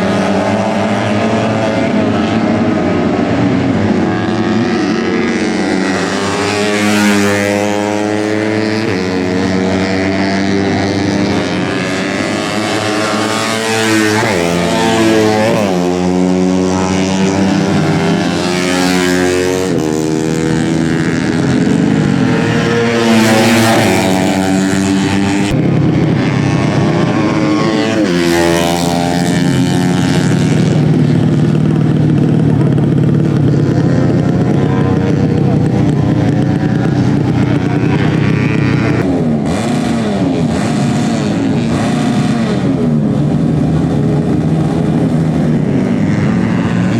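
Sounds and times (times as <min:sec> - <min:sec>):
race motorcycles at high revs: 0:00.0 - 0:46.9.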